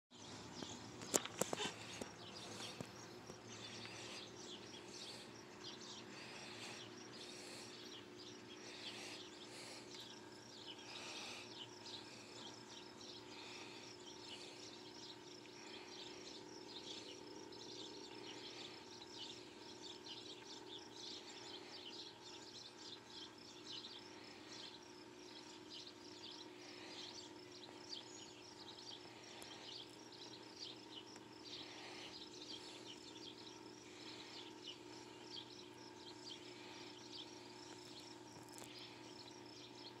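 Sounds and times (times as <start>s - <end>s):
steady low hum: 0.1s - 40.0s.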